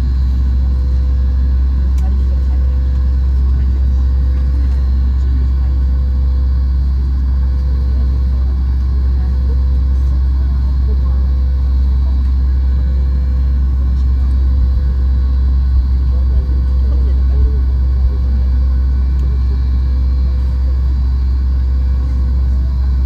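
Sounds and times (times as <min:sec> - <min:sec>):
airliner cabin low rumble: 0:00.0 - 0:23.0
mid-pitched hum: 0:00.0 - 0:23.0.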